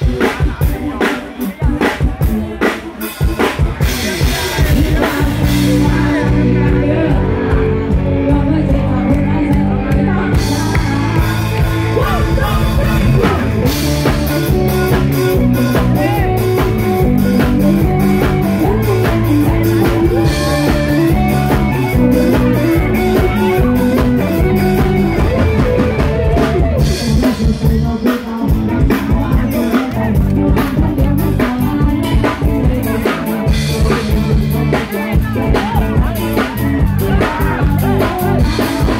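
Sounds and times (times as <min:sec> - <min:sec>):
drum kit: 0:00.0 - 0:38.9
electric guitar: 0:00.0 - 0:38.9
woman singing into a microphone: 0:03.8 - 0:14.7, 0:15.7 - 0:38.9.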